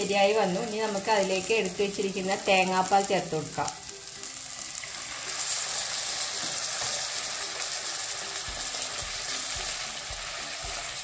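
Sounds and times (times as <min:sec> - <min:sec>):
masala sizzling in a pan: 0:00.0 - 0:11.0.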